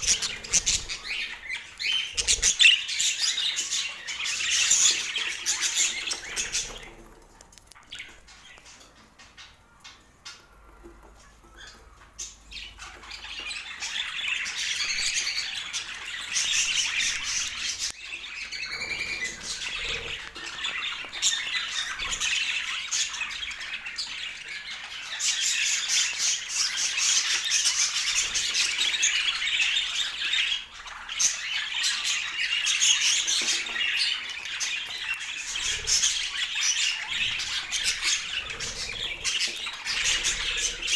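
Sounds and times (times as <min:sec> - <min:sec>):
budgerigars chattering and squawking: 0:00.0 - 0:07.2, 0:07.8 - 0:40.9.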